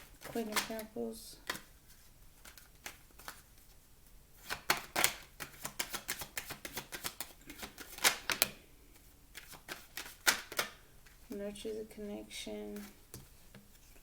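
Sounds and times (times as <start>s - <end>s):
cards being shuffled: 0.0s - 3.8s, 4.4s - 11.4s, 12.7s - 14.0s.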